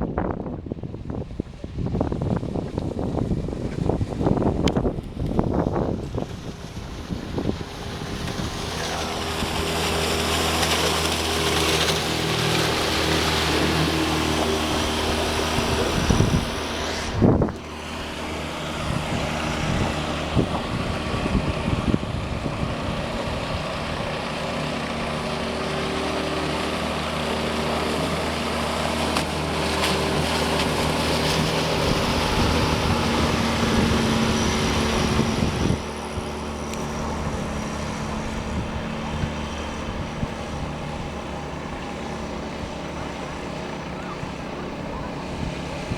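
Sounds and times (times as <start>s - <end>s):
outboard motor running: 0.0s - 45.9s
wind buffeting microphone: 0.0s - 45.9s
water rushing: 1.1s - 45.9s.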